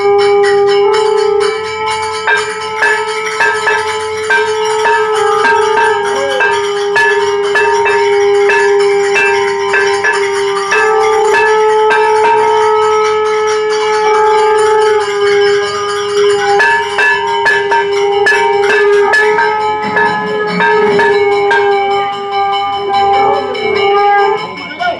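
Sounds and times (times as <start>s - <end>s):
steady ringing tone: 0.0s - 24.9s
temple bells clanging rapidly: 0.0s - 24.9s.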